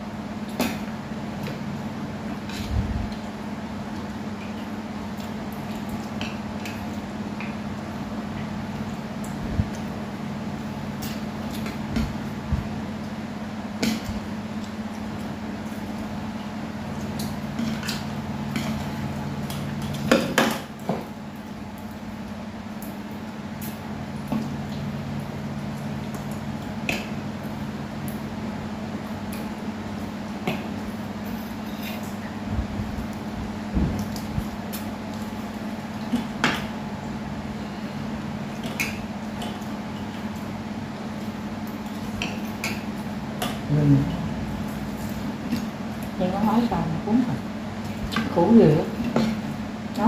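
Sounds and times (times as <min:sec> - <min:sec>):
electric fan humming: 0:00.0 - 0:50.0.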